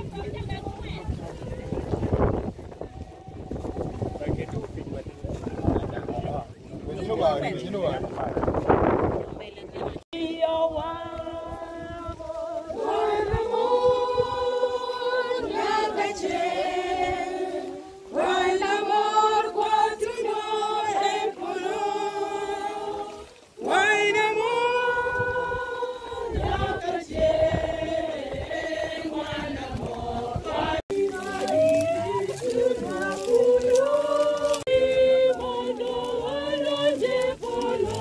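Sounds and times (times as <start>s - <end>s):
group singing funeral song: 0.0s - 4.8s, 10.1s - 38.0s.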